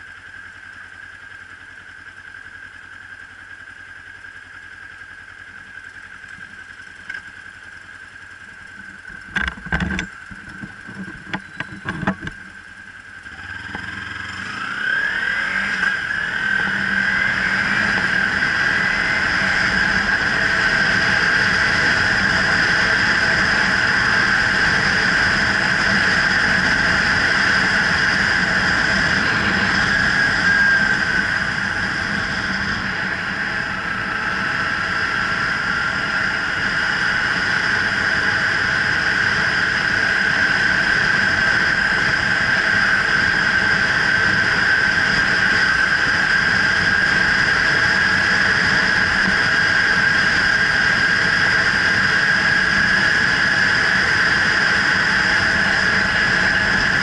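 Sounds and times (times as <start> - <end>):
motorcycle engine whine: 0.0 - 57.0.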